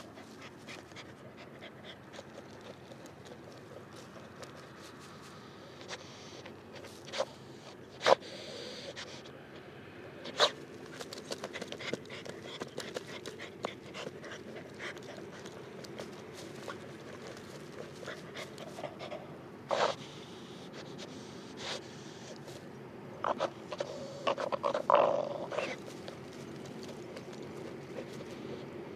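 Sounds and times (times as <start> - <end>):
dog panting and snorting: 0.0 - 9.3, 10.2 - 22.6, 23.2 - 28.9.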